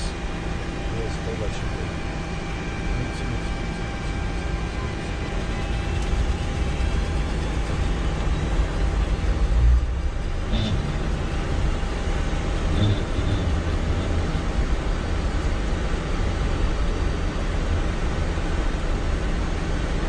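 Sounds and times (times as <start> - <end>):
jet engines rumbling: 0.0 - 17.4.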